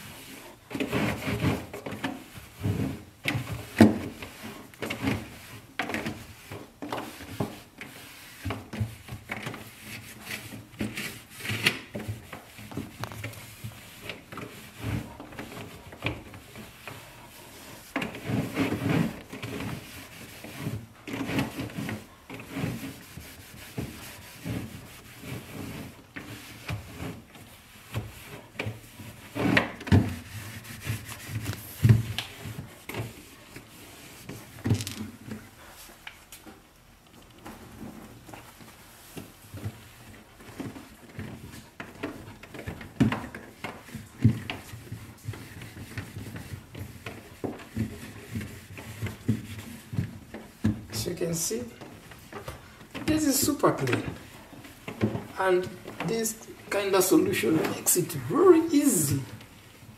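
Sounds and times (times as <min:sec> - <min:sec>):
cloth wiping plastic: 0:00.0 - 0:36.6, 0:37.5 - 0:59.9.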